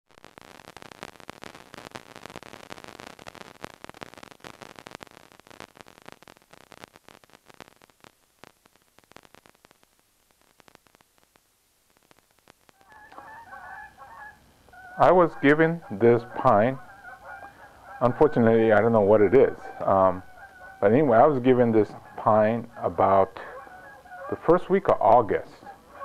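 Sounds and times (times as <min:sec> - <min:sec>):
crackling static clicks: 0:00.1 - 0:26.0.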